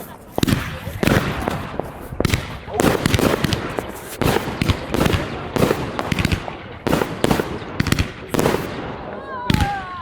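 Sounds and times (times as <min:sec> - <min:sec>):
fireworks banging and crackling: 0:00.0 - 0:10.0.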